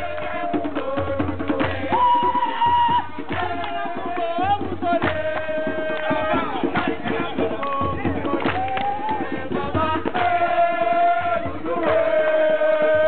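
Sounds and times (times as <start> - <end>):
fast hand drumming: 0.0 - 10.6.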